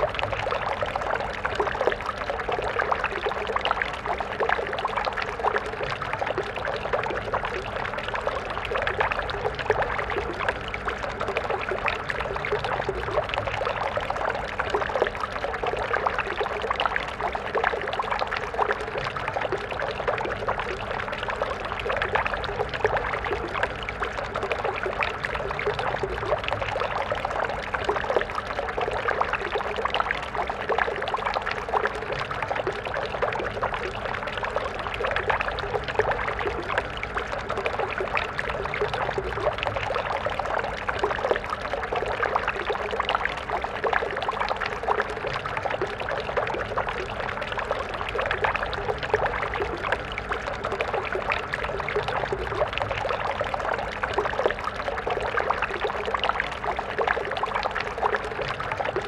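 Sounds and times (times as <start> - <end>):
stream water flowing and splashing: 0.0 - 59.0.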